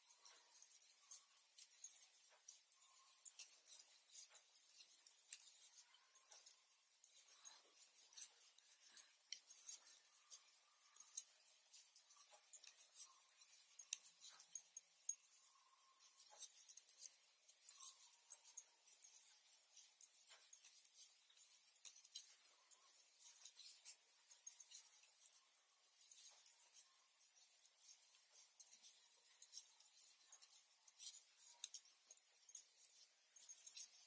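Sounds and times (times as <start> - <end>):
knitting needles clicking: 0.0 - 34.0.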